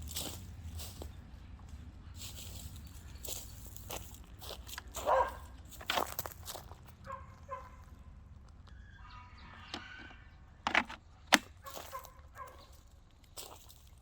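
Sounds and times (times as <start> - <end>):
footsteps: 0.0 - 8.0, 10.7 - 14.0.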